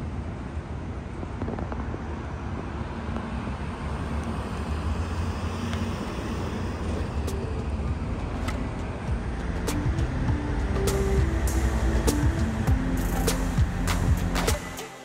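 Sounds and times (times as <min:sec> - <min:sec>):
cars running past and idling: 0:00.0 - 0:14.8.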